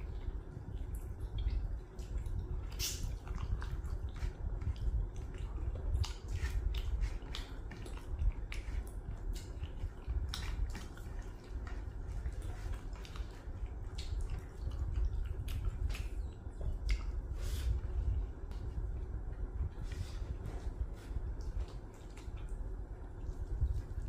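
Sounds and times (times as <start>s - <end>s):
wet clicks of eating by hand: 0.0s - 17.2s, 21.3s - 24.0s
low hum: 0.0s - 24.0s.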